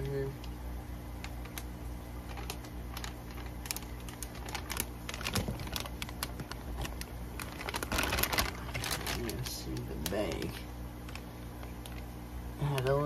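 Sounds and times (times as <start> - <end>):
plastic bag crinkling: 1.2 - 12.1.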